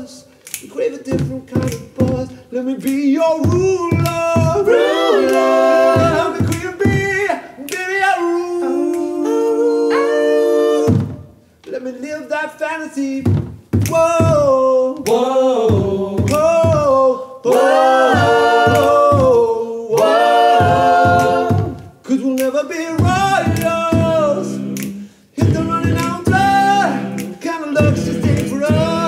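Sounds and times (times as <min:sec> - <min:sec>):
male vocal group singing: 0:00.0 - 0:11.3, 0:13.9 - 0:29.0.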